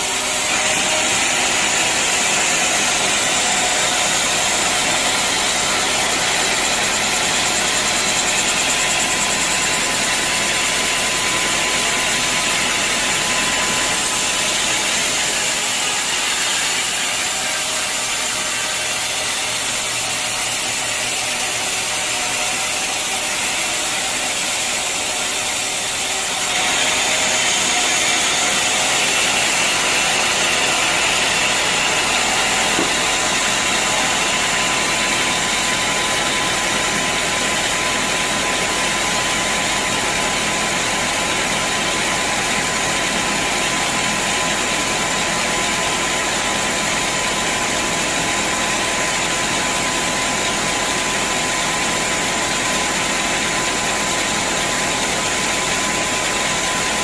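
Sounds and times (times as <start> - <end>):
bandsaw sawmill running: 0.0 - 57.0.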